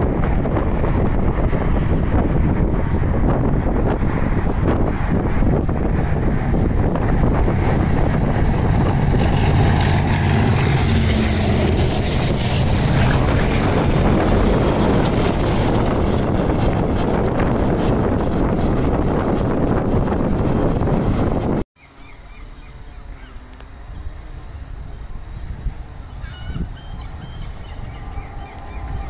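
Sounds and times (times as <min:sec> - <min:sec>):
wind on microphone: 0:00.0 - 0:21.7, 0:23.2 - 0:29.0
diesel locomotive engine droning: 0:00.0 - 0:29.0.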